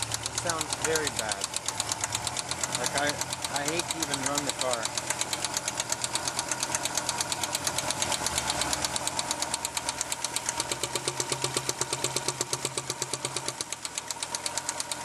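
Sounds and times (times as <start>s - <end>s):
engine running with lifter tick: 0.0s - 15.0s.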